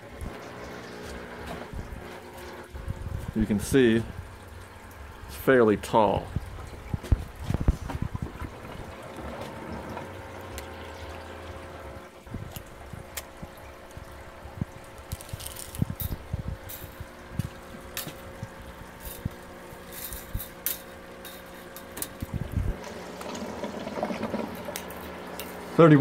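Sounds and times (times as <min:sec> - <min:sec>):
pump hum: 0:00.0 - 0:26.0
water trickling and splashing: 0:00.0 - 0:26.0.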